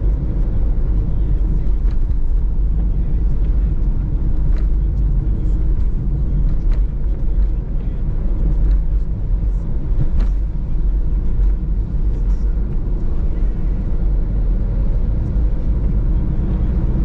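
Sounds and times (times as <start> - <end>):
van engine and tyres rumbling: 0.0 - 17.0.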